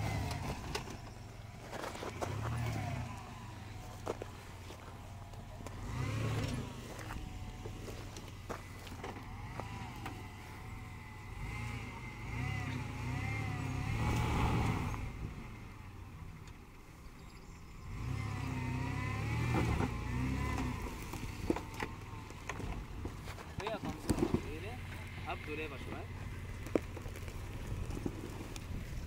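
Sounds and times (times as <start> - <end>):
car engine under load: 0.0 - 29.0.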